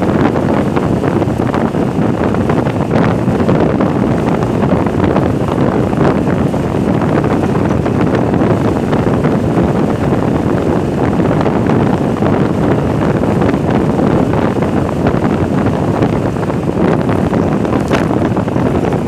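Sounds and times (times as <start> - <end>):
road noise: 0.0 - 19.0
wind rush on microphone: 0.0 - 19.0.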